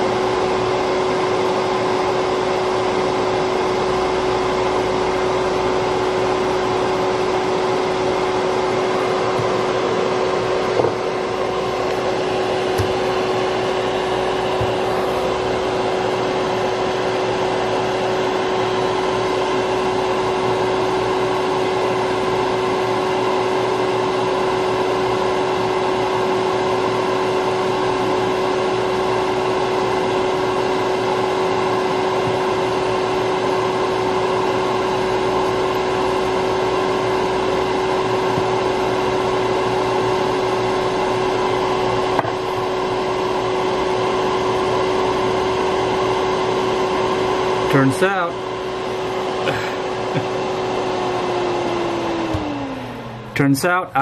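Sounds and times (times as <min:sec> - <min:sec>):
small electric fan whirring: 0:00.0 - 0:54.0.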